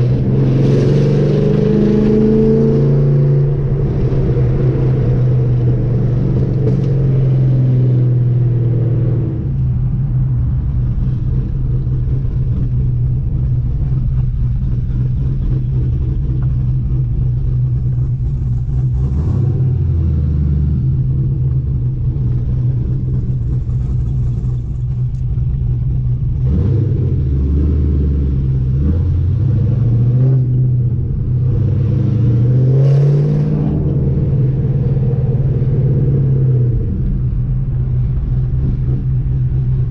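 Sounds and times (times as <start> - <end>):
car engine rumbling exhaust: 0.0 - 39.9.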